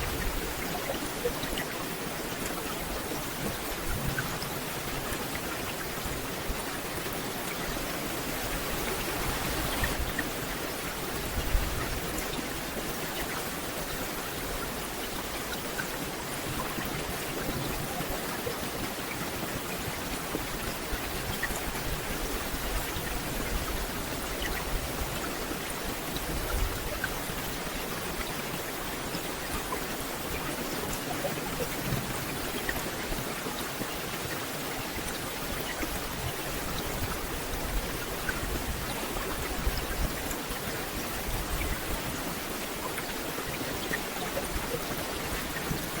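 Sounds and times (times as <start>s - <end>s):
rain on forest canopy: 0.0s - 46.0s.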